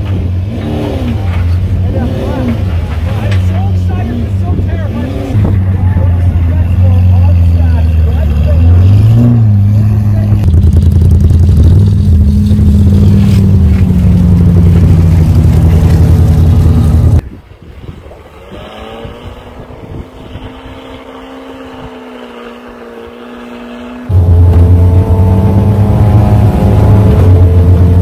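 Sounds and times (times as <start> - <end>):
car engine running loud: 0.0 - 28.0.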